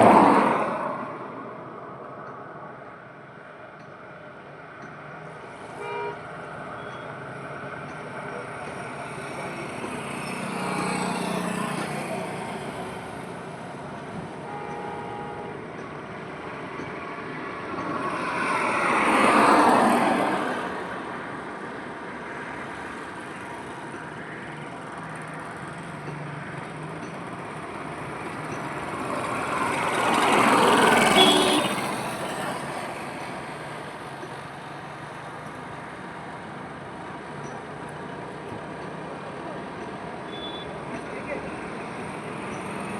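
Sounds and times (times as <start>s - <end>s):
highway road noise: 0.0s - 42.9s
vehicles passing close: 0.0s - 42.9s.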